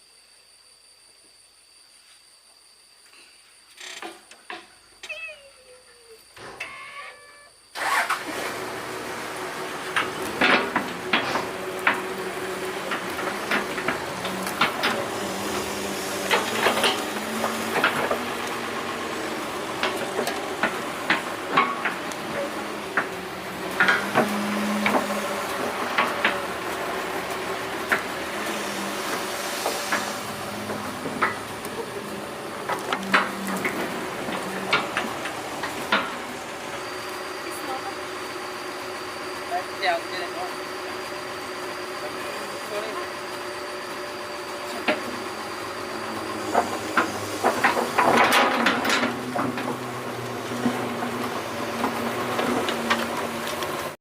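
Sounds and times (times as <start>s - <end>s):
excavator engine running: 5.0s - 54.0s.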